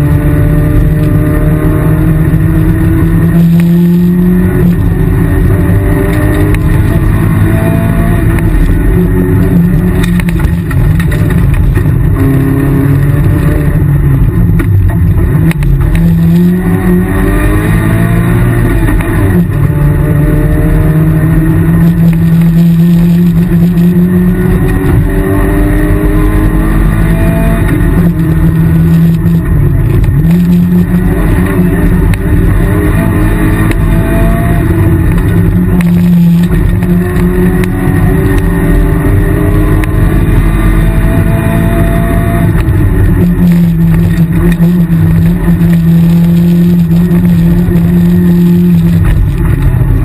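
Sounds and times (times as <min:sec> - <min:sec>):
rally car engine revving: 0:00.0 - 0:50.0
road and drivetrain rumble: 0:00.0 - 0:50.0.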